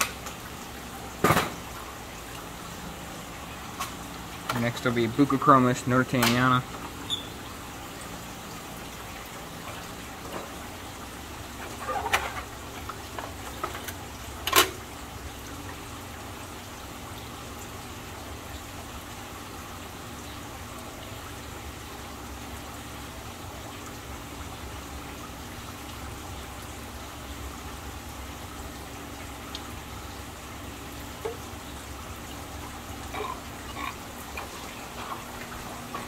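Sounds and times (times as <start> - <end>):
water trickling and splashing: 0.0 - 36.0.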